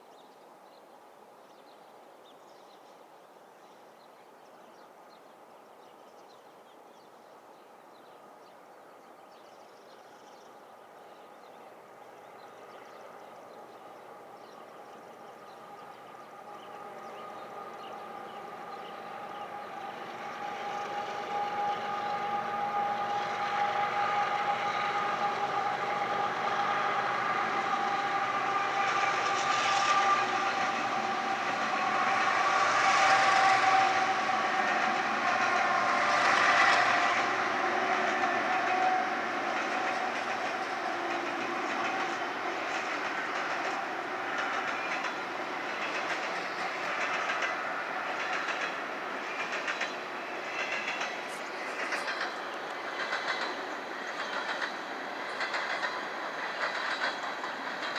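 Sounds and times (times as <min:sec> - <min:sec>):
diesel train approaching: 0:07.0 - 0:57.9.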